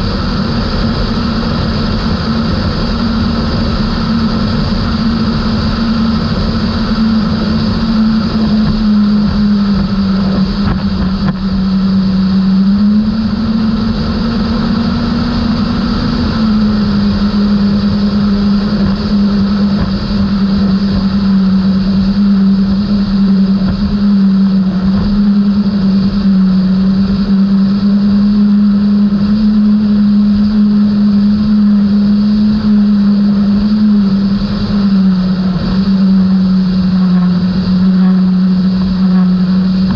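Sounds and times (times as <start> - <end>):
outboard motors running: 0.0 - 39.9
wind noise: 0.0 - 39.9.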